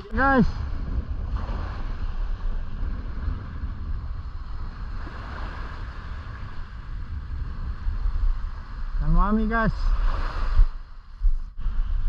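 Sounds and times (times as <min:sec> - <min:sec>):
sea water rushing: 0:00.0 - 0:12.0
wind buffeting microphone: 0:00.0 - 0:12.0.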